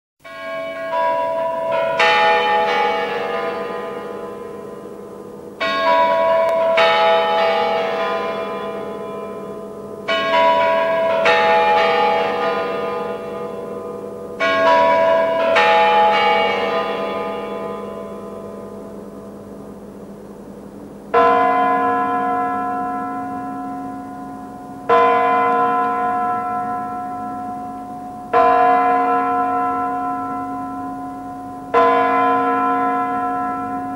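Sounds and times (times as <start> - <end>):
clock tower bells chiming: 0.2 - 20.1, 21.1 - 33.9.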